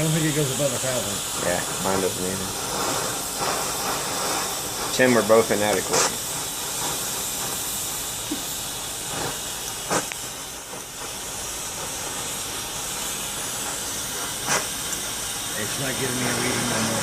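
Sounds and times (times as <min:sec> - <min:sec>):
gas torch flame hissing: 0:00.0 - 0:17.0.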